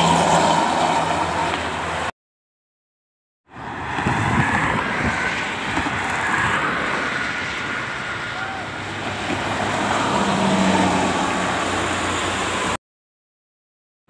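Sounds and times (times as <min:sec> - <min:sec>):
bus engine approaching: 0:00.0 - 0:02.1, 0:03.5 - 0:12.8
highway traffic noise: 0:00.0 - 0:02.2, 0:03.4 - 0:12.8.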